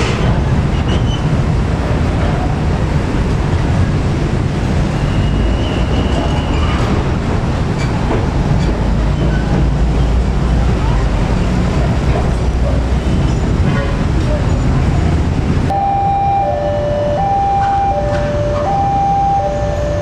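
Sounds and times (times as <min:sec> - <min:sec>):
train wheels rumbling on rails: 0:00.0 - 0:15.8, 0:16.6 - 0:20.0.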